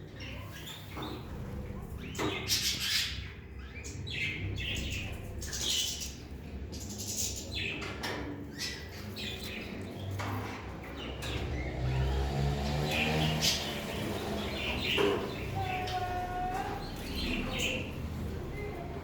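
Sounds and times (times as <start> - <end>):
caged songbirds chirping: 0.0 - 19.0.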